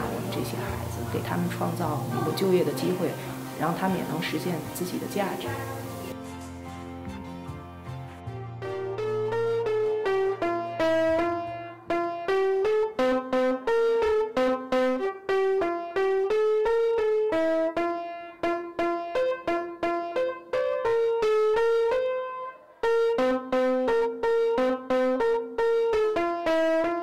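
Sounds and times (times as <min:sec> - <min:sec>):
slow piano melody: 0:00.0 - 0:27.0.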